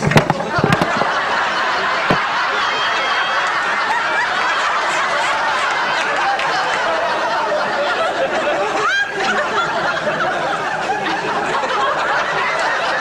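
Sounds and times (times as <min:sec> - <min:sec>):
studio audience laughing: 0:00.0 - 0:13.0.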